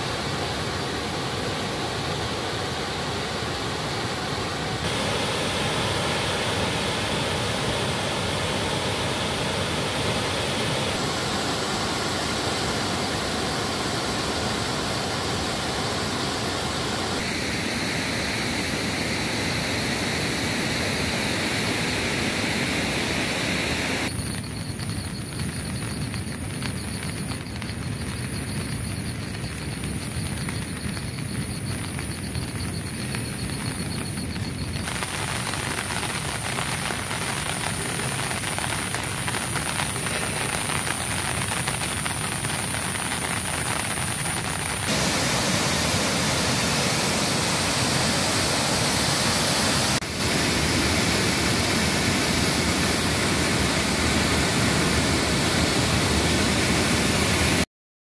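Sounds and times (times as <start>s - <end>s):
water rushing through spillway: 0.0s - 24.1s, 33.7s - 57.6s.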